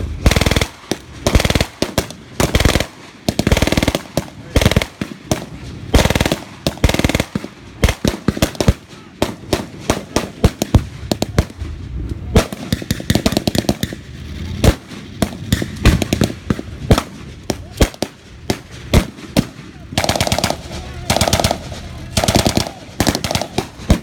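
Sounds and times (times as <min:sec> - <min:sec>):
blank gunfire shots: 0:00.2 - 0:11.6, 0:12.4 - 0:24.0.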